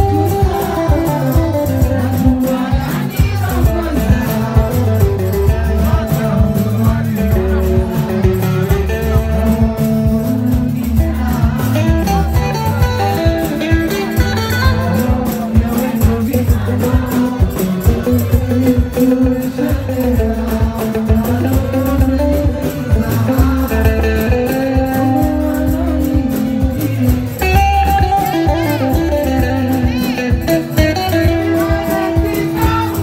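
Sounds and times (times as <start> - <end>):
live band music: 0.0 - 33.0
person singing: 0.0 - 33.0.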